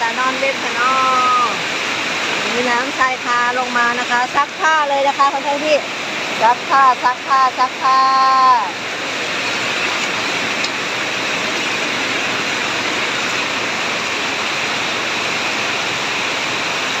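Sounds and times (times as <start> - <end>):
heavy rain falling: 0.0 - 17.0
runoff pouring off roof eaves: 0.0 - 17.0.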